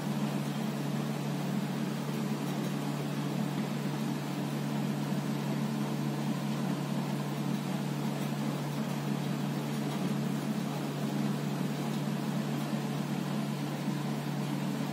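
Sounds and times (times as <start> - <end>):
low hum with hiss: 0.0 - 14.9.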